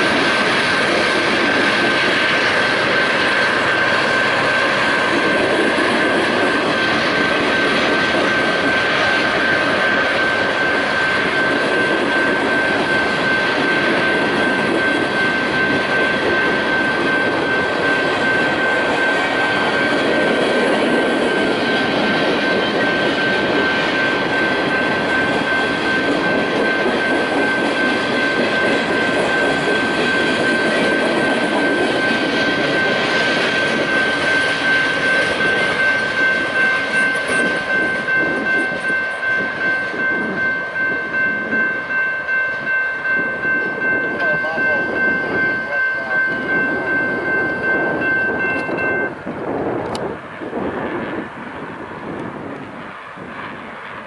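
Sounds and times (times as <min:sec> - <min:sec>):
high steady whine: 0:00.0 - 0:54.0
train rumbling past: 0:00.0 - 0:54.0.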